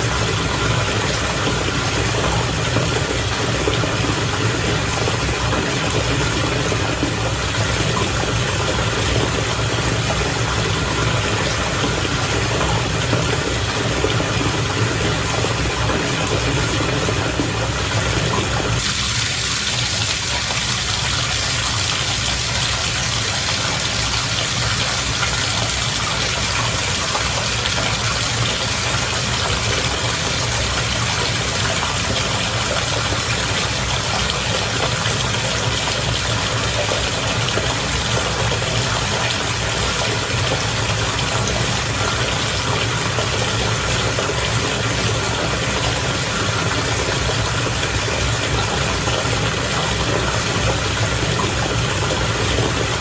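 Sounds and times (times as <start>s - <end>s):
bath water bubbling and churning: 0.0s - 53.0s.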